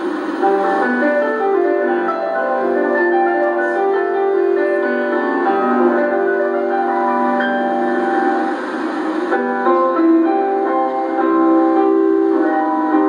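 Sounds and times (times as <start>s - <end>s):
solo piano melody: 0.0s - 13.0s.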